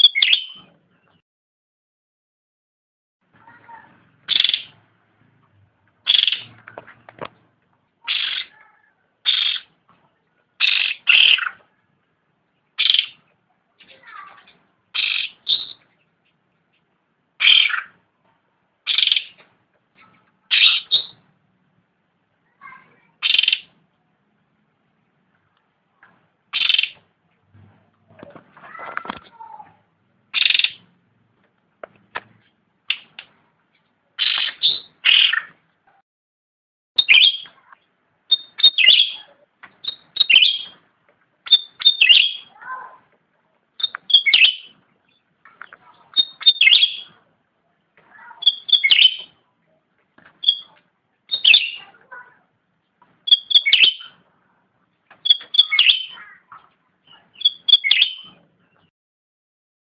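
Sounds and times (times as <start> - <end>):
songbird chirping: 0.0 - 1.2, 3.4 - 36.0, 37.0 - 58.9.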